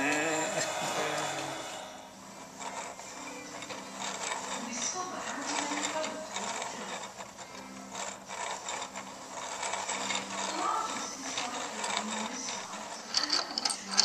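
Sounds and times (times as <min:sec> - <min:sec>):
wooden automaton clicking and clattering: 0:02.6 - 0:14.0.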